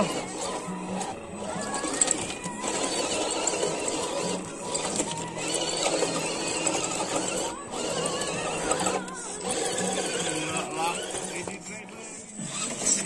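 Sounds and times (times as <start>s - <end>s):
electric motor and gearbox whining: 0.0s - 13.0s.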